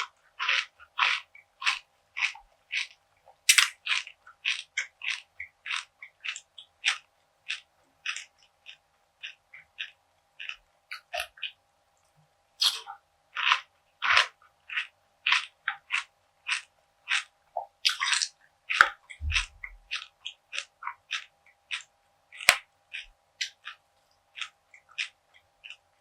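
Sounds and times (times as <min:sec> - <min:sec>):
crunchy snack chewing: 0:00.0 - 0:11.6, 0:12.6 - 0:25.9
faint steady hum: 0:00.0 - 0:26.0.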